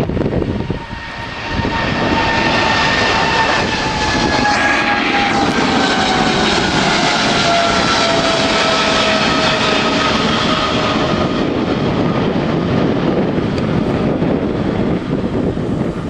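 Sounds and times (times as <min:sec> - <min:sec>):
jet engines rushing at takeoff: 0:00.0 - 0:16.0
whining jet fan tone: 0:00.0 - 0:16.0.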